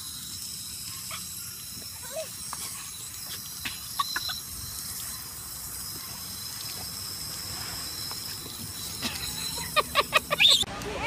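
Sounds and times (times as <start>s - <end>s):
garden hose spraying water: 0.0s - 10.7s.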